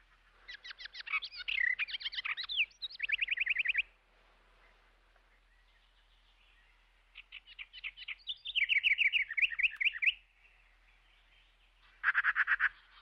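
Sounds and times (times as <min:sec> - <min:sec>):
songbird singing a trill: 0:00.0 - 0:04.0, 0:04.6 - 0:13.0.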